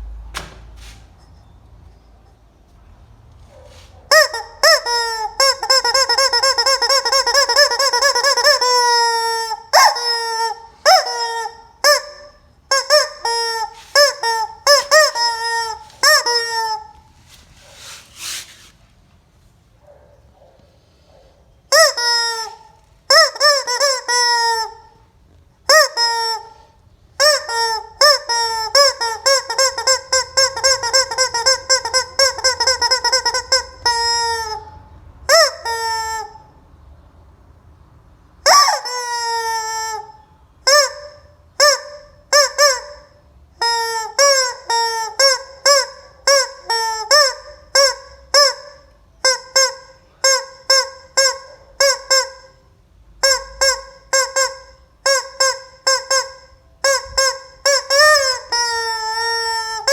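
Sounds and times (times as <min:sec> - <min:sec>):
rubber squeeze-toy chicken squawking: 0:04.0 - 0:18.6, 0:21.7 - 0:36.6, 0:38.4 - 0:52.6, 0:53.2 - 0:59.9.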